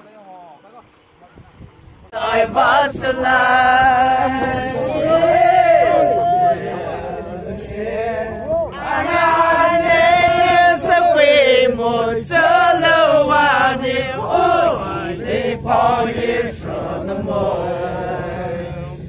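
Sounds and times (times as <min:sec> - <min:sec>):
men singing in unison: 0:02.1 - 0:19.0.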